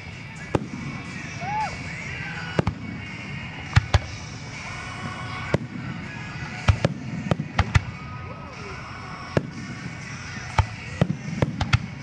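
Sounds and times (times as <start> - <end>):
music playing: 0.0 - 12.0
fireworks bursting: 0.4 - 12.0.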